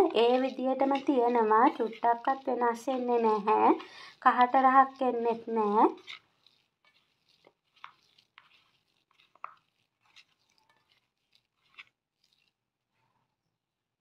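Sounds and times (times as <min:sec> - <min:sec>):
hand kneading food in bowl: 0:00.0 - 0:12.8.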